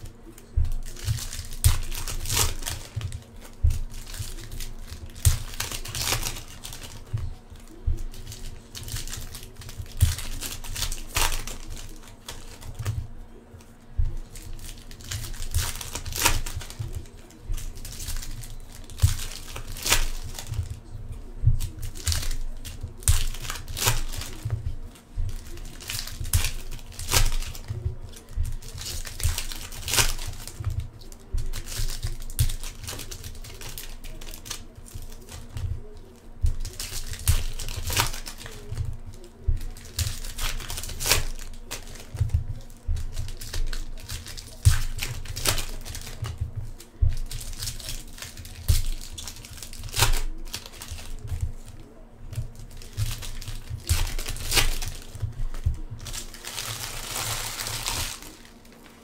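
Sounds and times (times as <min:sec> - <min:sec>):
foil wrappers crinkling and tearing: 0:00.0 - 0:59.0.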